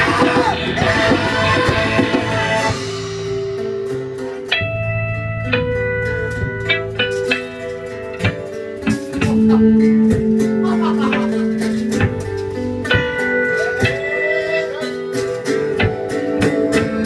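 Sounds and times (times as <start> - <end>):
full band playing: 0.0 - 17.0
guitar picking single notes: 0.0 - 17.0.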